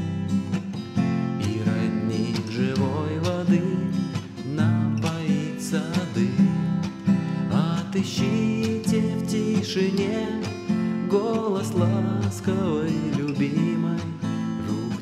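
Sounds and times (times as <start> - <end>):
acoustic guitar strumming: 0.0 - 15.0
man singing: 1.3 - 15.0.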